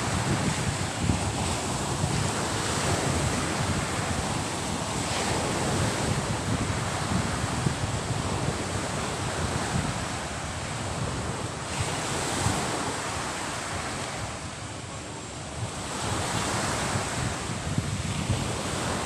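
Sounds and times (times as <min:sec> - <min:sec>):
waves breaking on beach: 0:00.0 - 0:19.0
wind buffeting microphone: 0:00.0 - 0:19.0.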